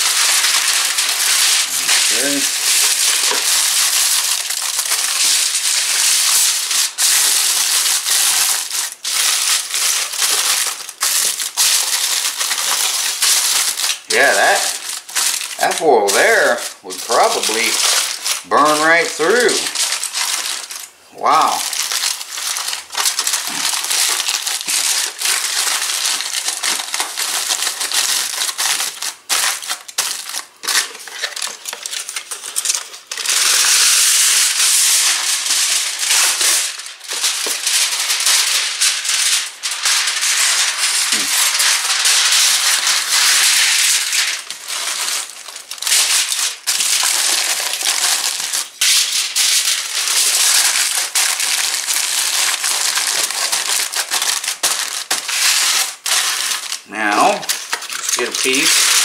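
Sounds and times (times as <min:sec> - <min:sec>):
aluminum foil crinkling: 0:00.0 - 0:59.0.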